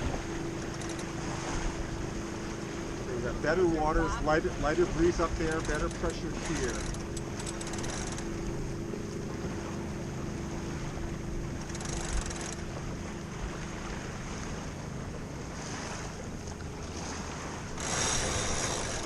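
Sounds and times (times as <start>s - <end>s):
water washing along hull: 0.0s - 19.0s.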